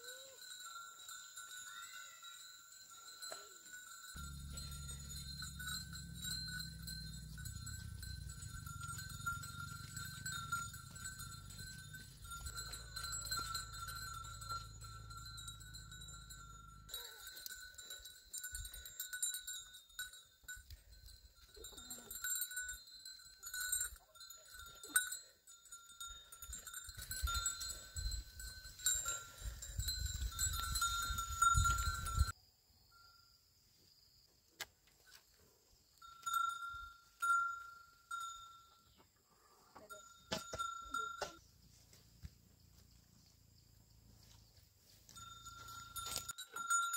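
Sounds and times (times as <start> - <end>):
goat bells clinking: 0.0 - 33.1, 35.1 - 46.9.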